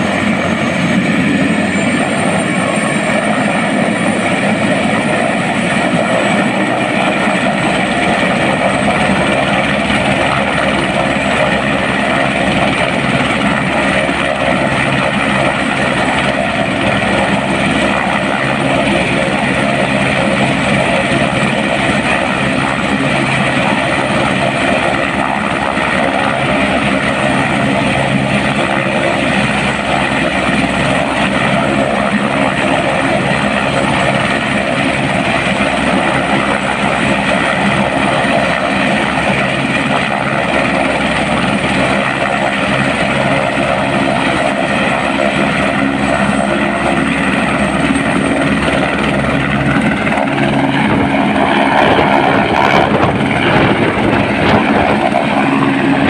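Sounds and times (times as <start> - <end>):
helicopter engine and rotor: 0.0 - 56.0
high turbine whine: 0.0 - 56.0.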